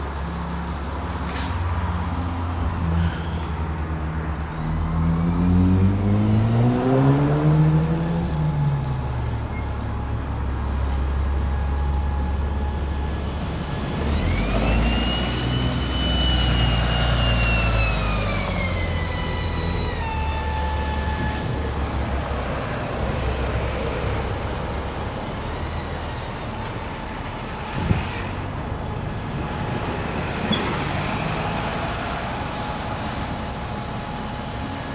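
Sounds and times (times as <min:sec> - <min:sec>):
heavy vehicle engine pulling away: 0:00.0 - 0:34.9
high vehicle whine: 0:00.0 - 0:34.9
road traffic passing: 0:00.0 - 0:34.9.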